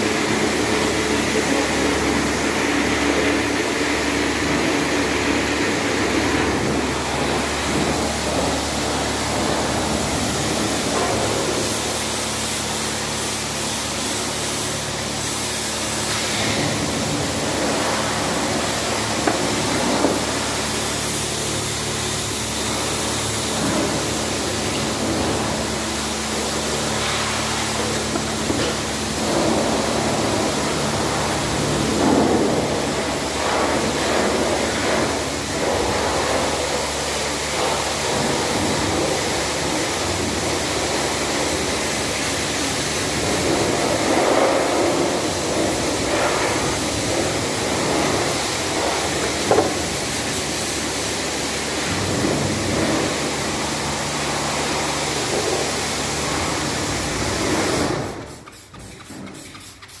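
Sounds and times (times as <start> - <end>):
low machine hum: 0.0 - 58.4
car-wash sprayer hissing: 0.0 - 60.0.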